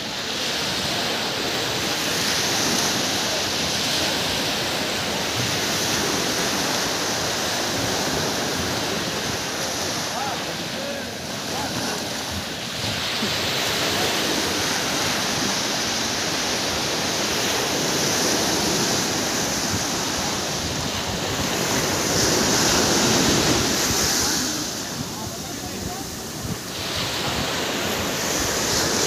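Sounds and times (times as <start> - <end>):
surf breaking on sand: 0.0 - 29.0.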